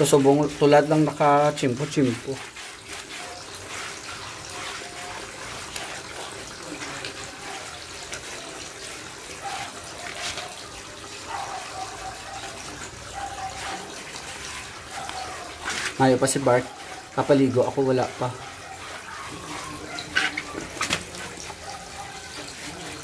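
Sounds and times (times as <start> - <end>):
sharp water splashes: 0.0 - 23.0
water running from a tap: 0.0 - 23.0.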